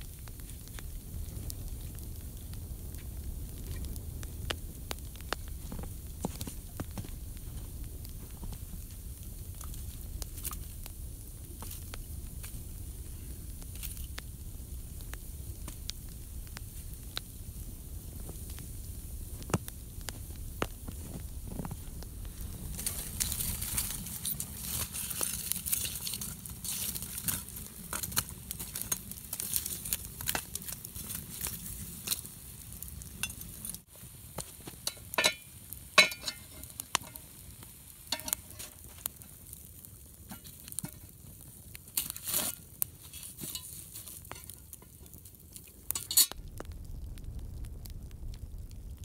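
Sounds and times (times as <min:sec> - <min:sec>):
campfire crackling and popping: 0:00.0 - 0:49.0
fire hiss: 0:00.0 - 0:49.0.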